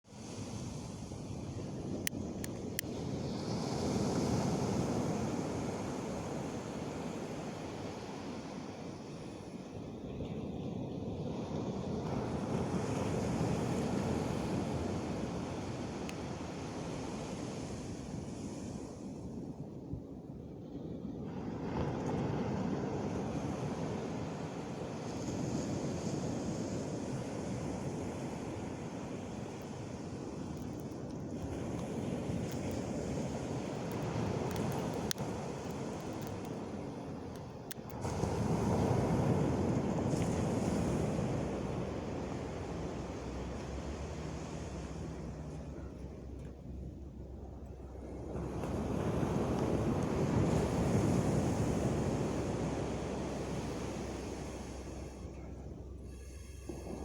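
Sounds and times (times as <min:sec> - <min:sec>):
waves washing on shore: 0:00.1 - 0:57.0.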